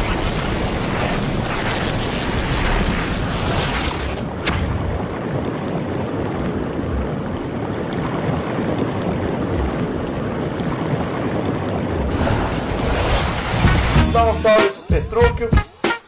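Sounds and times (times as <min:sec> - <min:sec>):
water spraying and splashing: 0:00.0 - 0:11.4, 0:12.0 - 0:14.8.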